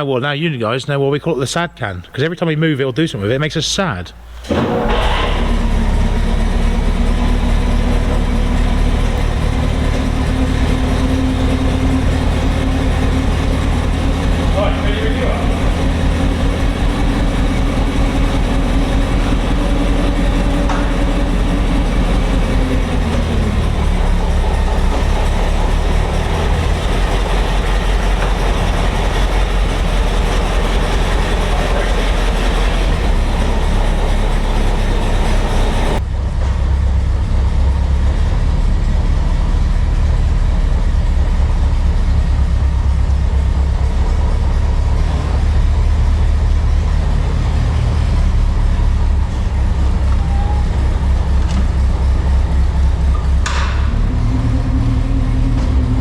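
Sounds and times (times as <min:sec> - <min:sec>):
petrol engine running loudly: 0:04.2 - 0:56.0.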